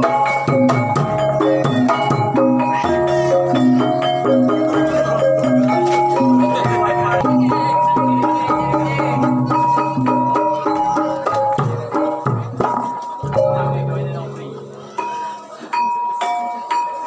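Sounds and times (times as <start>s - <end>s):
drum strokes: 0.0s - 15.8s
metallophone melody: 0.0s - 17.0s.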